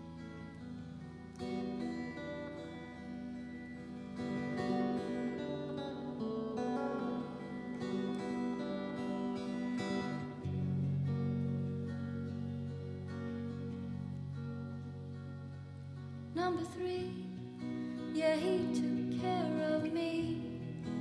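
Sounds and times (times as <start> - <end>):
electric guitar strummed chords: 0.0 - 21.0.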